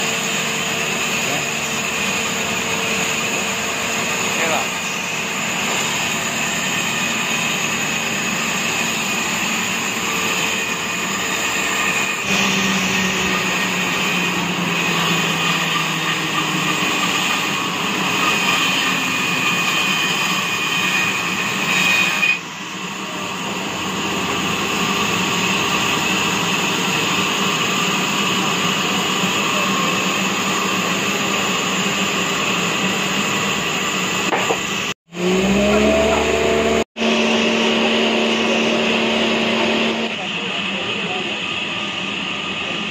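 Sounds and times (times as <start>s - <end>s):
band saw machinery droning: 0.0s - 42.9s.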